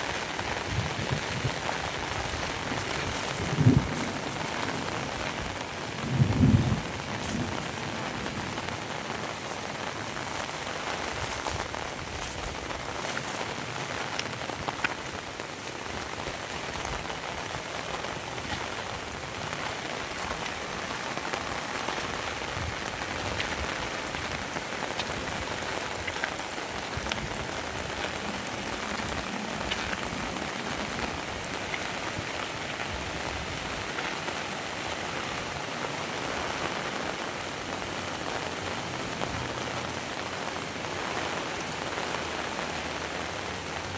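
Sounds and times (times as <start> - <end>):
heavy rain falling: 0.0 - 43.9
sharp raindrop hits: 0.0 - 43.9.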